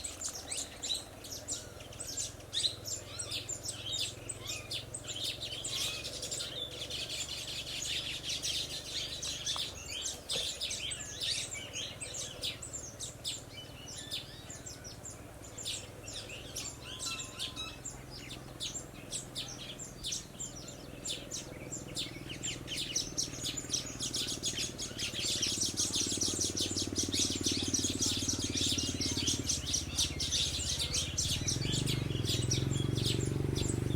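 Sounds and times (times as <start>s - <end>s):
birds chirping rapidly: 0.0s - 33.9s.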